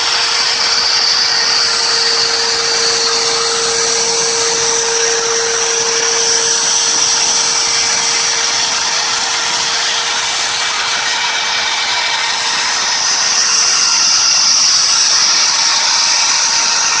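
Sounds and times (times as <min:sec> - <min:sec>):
low hum: 0:00.0 - 0:14.9
high whine: 0:00.0 - 0:17.0
router machine hissing: 0:00.0 - 0:17.0.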